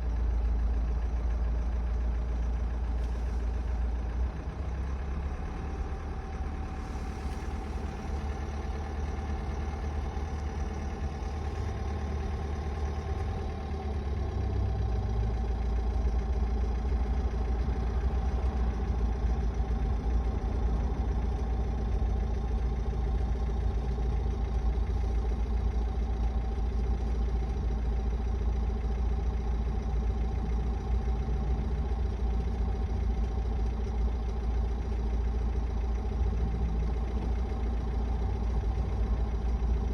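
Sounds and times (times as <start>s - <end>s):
diesel engine idling: 0.0s - 39.9s
engine knock: 0.0s - 39.9s.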